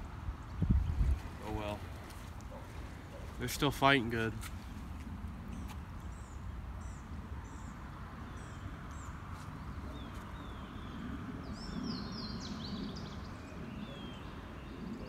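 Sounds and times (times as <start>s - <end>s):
low outdoor background noise: 0.0s - 15.0s
small birds chirping: 0.4s - 15.0s.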